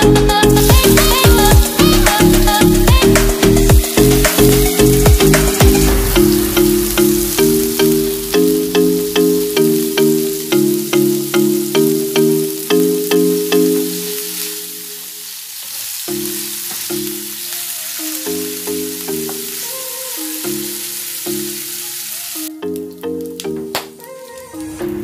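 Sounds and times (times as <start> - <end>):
plucked background music: 0.0 - 15.0, 16.1 - 25.0
meat sizzling in hot oil: 0.5 - 23.4.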